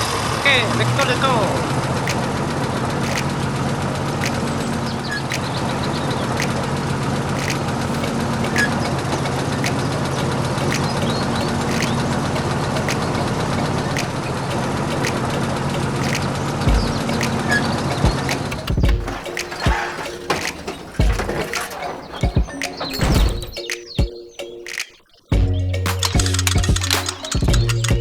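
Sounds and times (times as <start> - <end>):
sharp ticks: 1.0 - 28.0.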